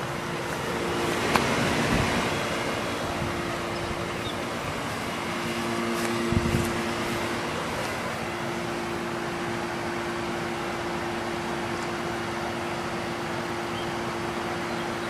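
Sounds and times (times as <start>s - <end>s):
air conditioner fan rush: 0.0s - 15.0s
compressor hum: 0.0s - 15.0s.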